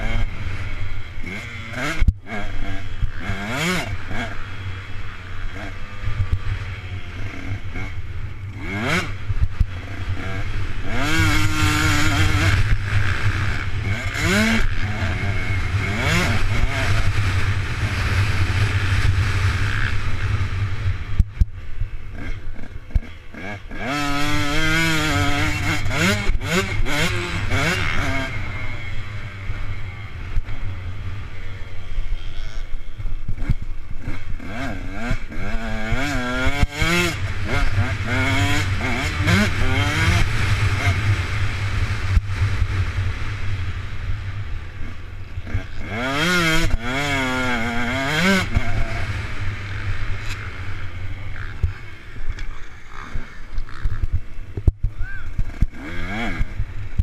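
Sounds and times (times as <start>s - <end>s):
motorbike engine revving: 0.0s - 21.4s, 22.0s - 57.0s.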